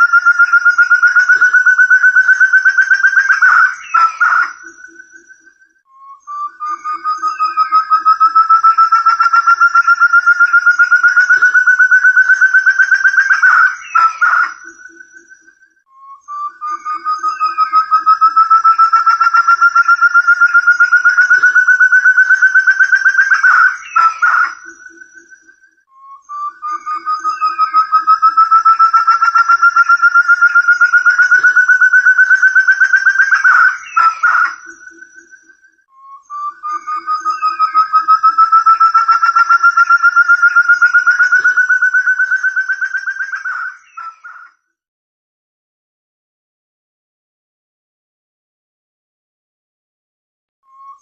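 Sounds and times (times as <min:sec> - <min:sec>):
partridge whistled call: 0:00.0 - 0:44.6, 0:50.7 - 0:51.0.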